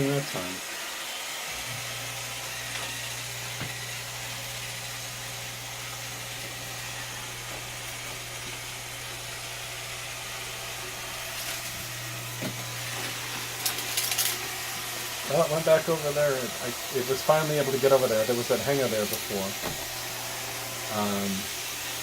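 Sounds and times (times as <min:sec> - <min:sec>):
robot vacuum running: 0:00.0 - 0:22.0.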